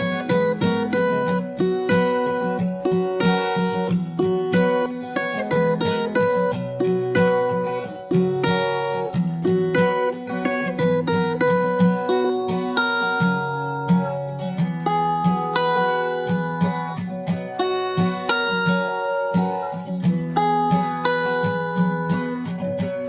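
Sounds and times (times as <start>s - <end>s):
acoustic guitar picking: 0.0s - 23.0s.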